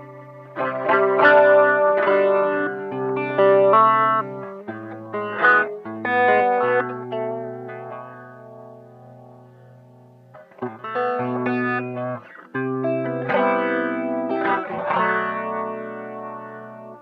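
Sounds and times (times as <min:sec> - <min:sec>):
guitar chords ringing: 0:00.0 - 0:17.0.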